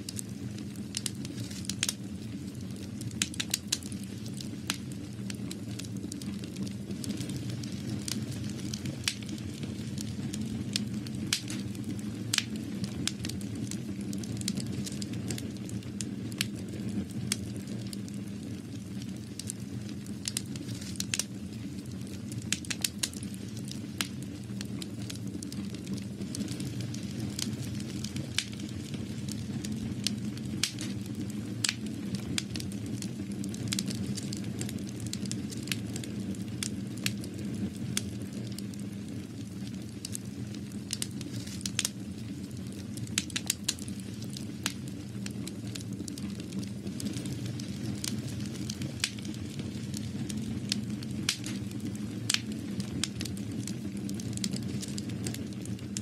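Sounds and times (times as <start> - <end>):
sharp crackles and clicks: 0.0 - 56.0.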